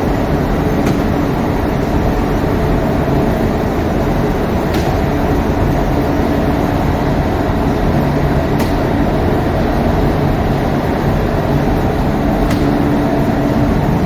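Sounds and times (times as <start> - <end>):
loud machine drone: 0.0 - 14.0.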